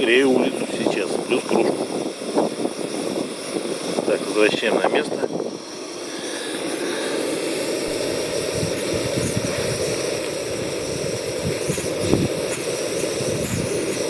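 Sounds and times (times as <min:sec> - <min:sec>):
wind buffeting microphone: 0:00.0 - 0:05.6, 0:07.8 - 0:14.0
gas stove burner roar: 0:00.0 - 0:14.0.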